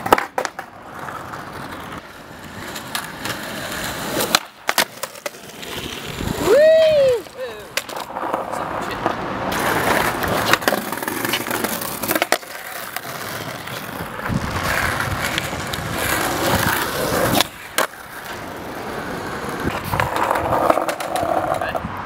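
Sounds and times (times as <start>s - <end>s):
skateboard clacking on ground: 0.0s - 21.9s
skateboard wheels rolling on tarmac: 0.0s - 22.0s.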